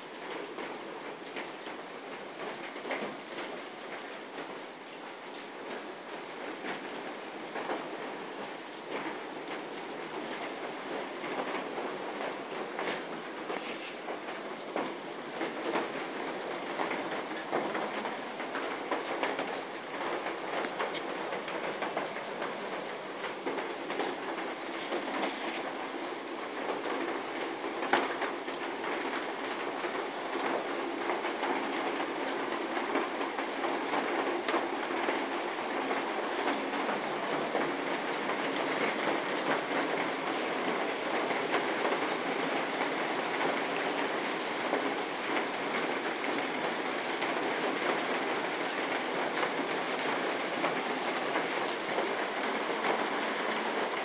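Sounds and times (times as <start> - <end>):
hail and heavy rain pelting: 0.0 - 54.0.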